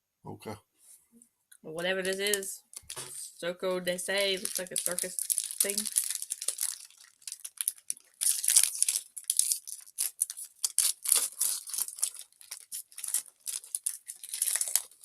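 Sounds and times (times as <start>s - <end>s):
snack wrapper crackling: 2.0s - 3.2s, 4.1s - 15.0s.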